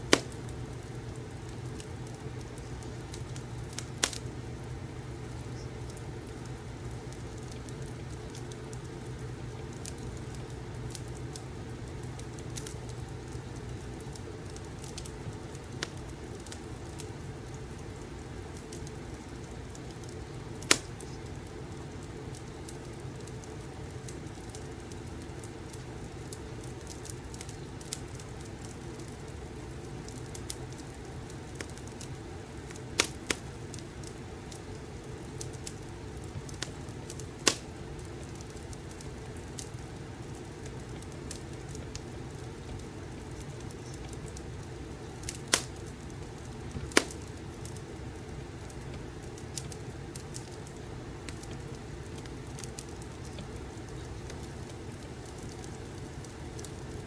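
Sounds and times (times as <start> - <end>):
fire crackles and pops: 0.0 - 57.0
wood fire rumbling: 0.0 - 57.0.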